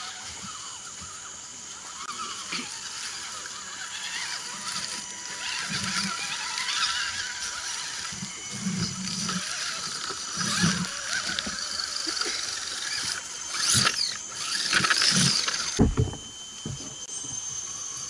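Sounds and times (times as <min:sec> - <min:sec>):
electric motors whining: 0:00.0 - 0:18.0
insects buzzing: 0:00.0 - 0:18.0.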